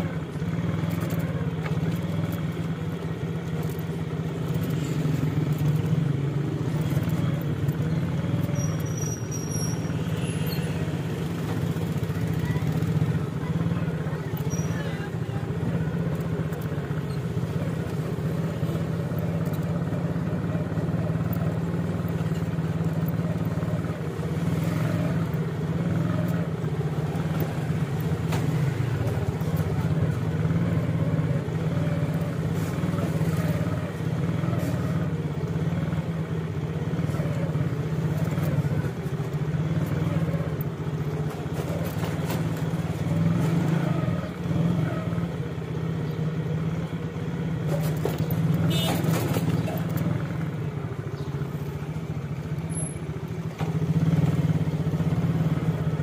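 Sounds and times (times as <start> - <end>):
motor vehicle engine drone: 0.0 - 56.0
street noise: 0.0 - 56.0.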